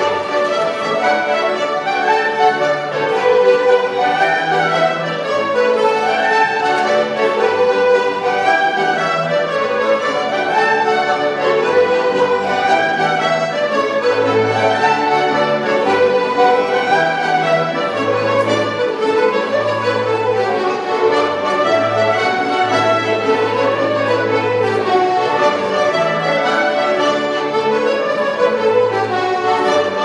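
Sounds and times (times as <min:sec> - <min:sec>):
accordions: 0:00.0 - 0:30.0
fiddles playing a jig: 0:00.0 - 0:30.0.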